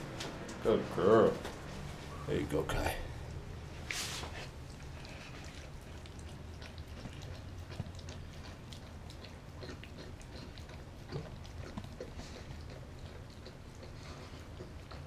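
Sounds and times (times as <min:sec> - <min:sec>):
dog chewing and licking: 0:00.0 - 0:15.0
steady low hum: 0:00.0 - 0:15.0.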